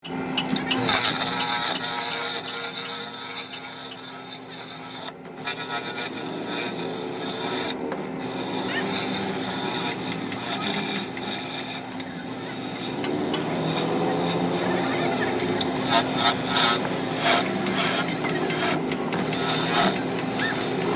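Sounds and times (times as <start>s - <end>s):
tool scraping wood: 0.5s - 20.9s.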